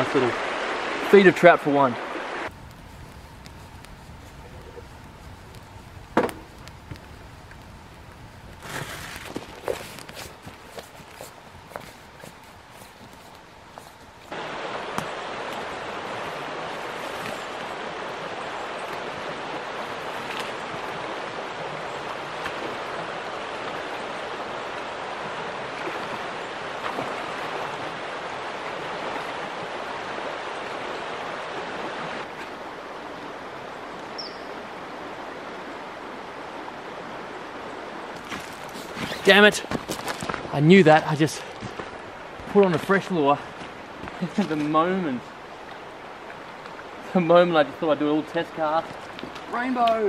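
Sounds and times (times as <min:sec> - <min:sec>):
stream rushing: 0:00.0 - 0:50.0.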